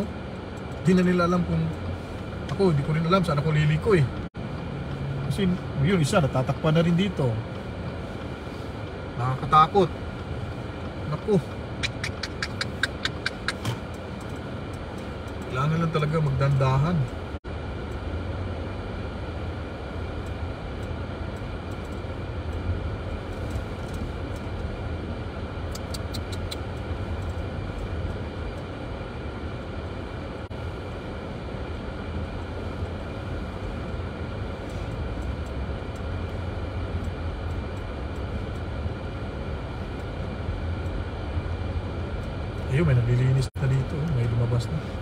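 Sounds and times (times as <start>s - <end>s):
car engine and tyres rumbling: 0.0s - 45.0s.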